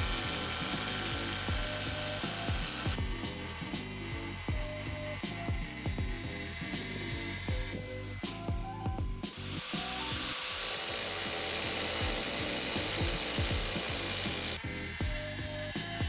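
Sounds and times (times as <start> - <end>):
angle grinder cutting tile: 0.0 - 16.0
background music with steady beat: 0.0 - 16.0.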